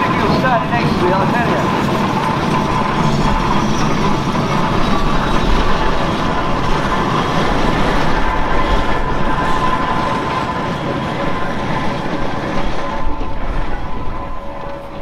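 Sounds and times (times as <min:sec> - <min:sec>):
steam traction engine running: 0:00.0 - 0:15.0.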